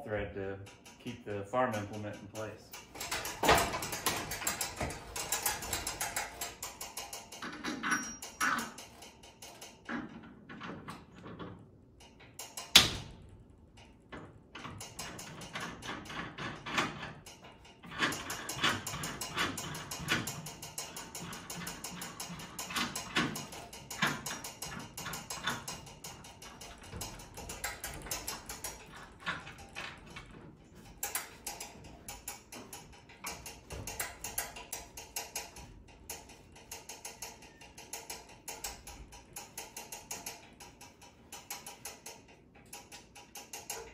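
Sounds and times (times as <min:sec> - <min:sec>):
small metal clicks and clinks: 0:00.6 - 0:12.8, 0:14.6 - 0:43.9.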